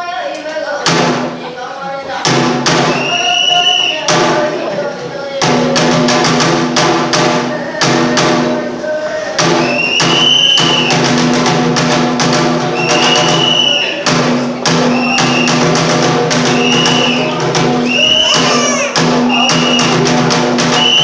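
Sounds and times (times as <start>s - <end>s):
drum strikes: 0.8s - 1.5s, 2.2s - 3.4s, 4.0s - 4.7s, 5.4s - 21.0s.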